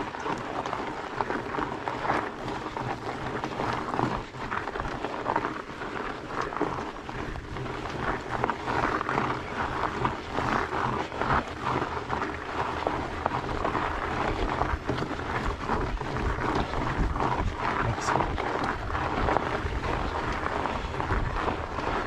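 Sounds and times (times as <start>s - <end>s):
bike tyres crunching on grit: 0.0s - 22.0s
wind rumble on microphone: 0.0s - 22.0s.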